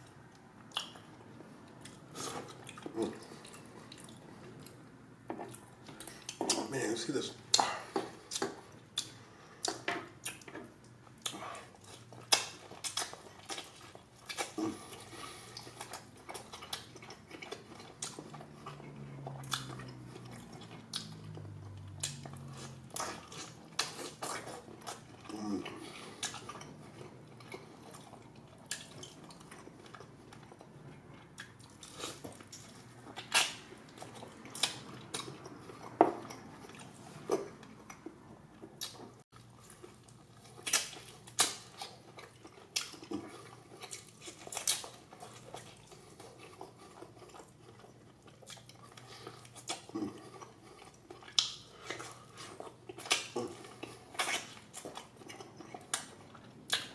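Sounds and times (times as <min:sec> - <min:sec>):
chewing and biting steak: 0:07.5 - 0:56.9.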